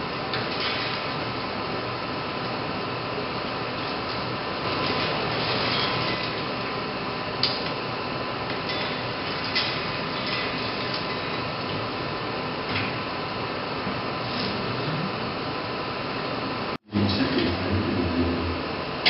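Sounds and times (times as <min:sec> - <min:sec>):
machinery and ventilation hum: 0:00.0 - 0:19.0.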